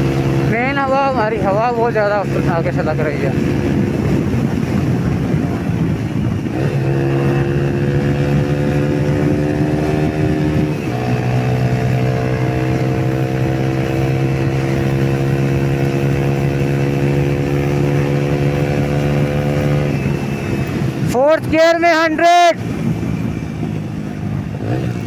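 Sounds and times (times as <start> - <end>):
motorcycle engine revving at speed: 0.0 - 25.0.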